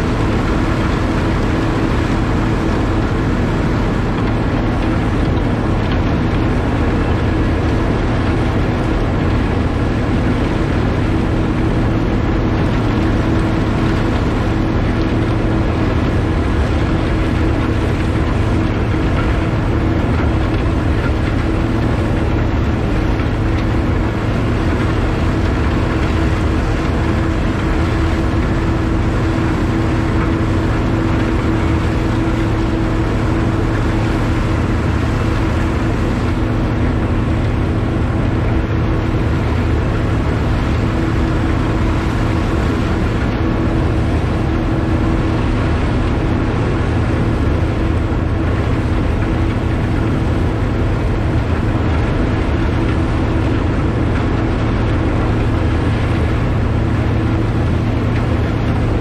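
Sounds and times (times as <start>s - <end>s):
diesel engines droning: 0.0s - 59.0s
rushing snow noise: 0.0s - 59.0s
snowblower running: 0.0s - 59.0s.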